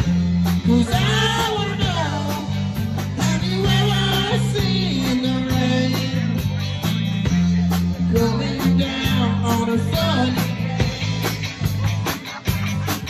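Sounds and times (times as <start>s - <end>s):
bass guitar: 0.0s - 13.0s
drum kit beat: 0.0s - 13.0s
electric guitars: 0.0s - 13.0s.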